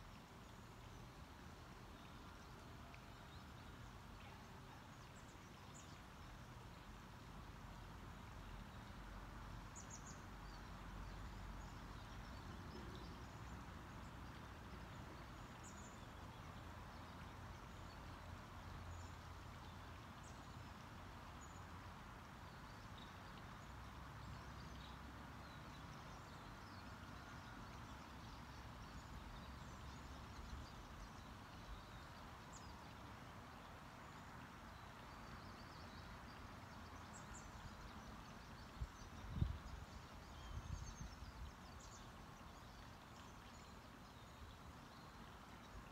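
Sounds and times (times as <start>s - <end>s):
steady hiss and low rumble: 0.0s - 45.9s.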